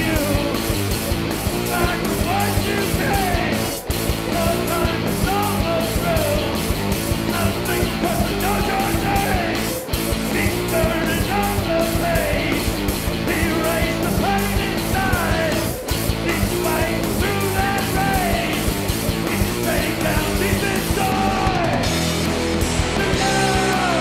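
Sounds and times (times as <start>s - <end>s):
pitch-bending guitar melody: 0.0s - 24.0s
punk rock band playing live: 0.0s - 24.0s.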